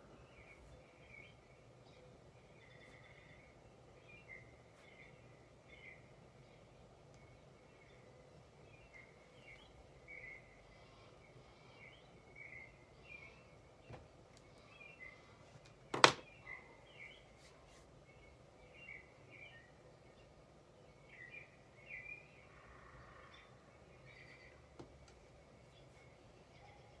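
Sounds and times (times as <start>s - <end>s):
faint steady hiss: 0.0s - 27.0s
small birds chirping: 0.0s - 27.0s.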